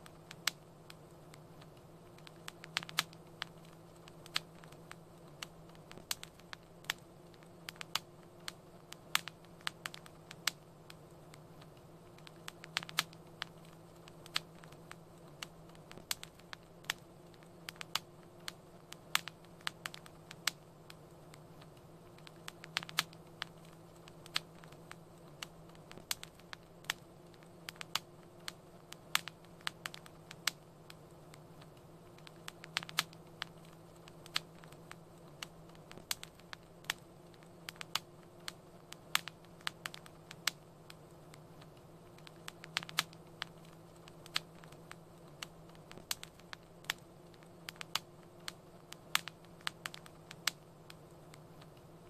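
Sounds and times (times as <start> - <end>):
faint low hum: 0.0 - 52.0
wood fire crackling: 0.0 - 52.0.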